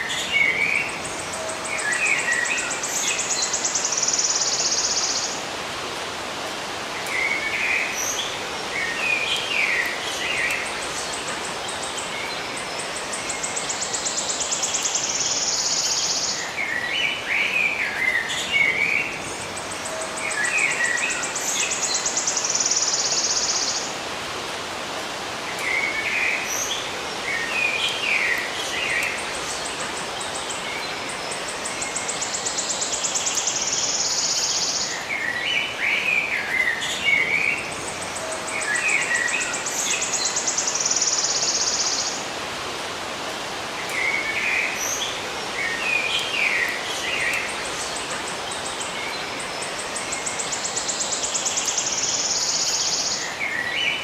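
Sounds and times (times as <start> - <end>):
background hiss: 0.0 - 54.0.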